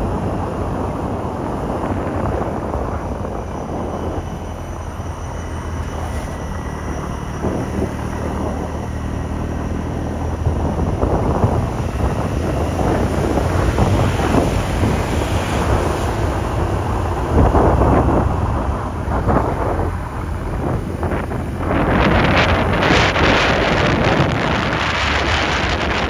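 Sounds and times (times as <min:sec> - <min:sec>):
vehicle engine running: 0:00.0 - 0:26.0
wind rushing over microphone: 0:00.0 - 0:26.0.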